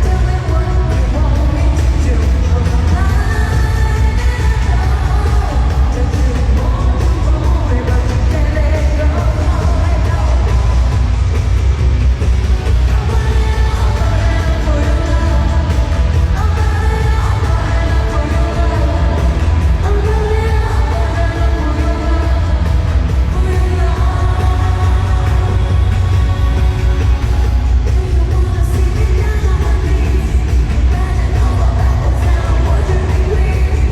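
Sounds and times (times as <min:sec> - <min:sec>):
pop music with singing: 0:00.0 - 0:33.9.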